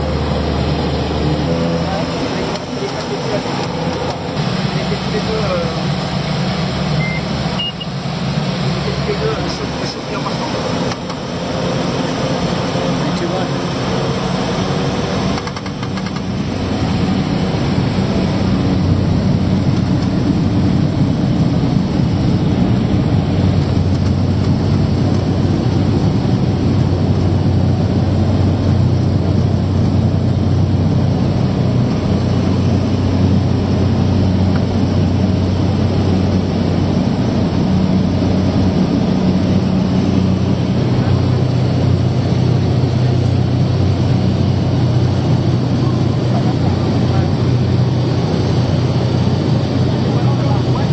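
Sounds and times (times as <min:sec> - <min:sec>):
engine drone in cabin: 0:00.0 - 0:50.9
turboprop engine whine: 0:00.0 - 0:50.9.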